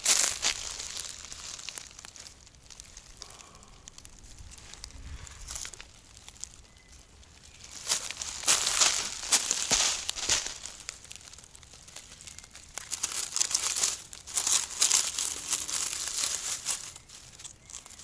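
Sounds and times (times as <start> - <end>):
close rustling and crackling: 0.0 - 18.0.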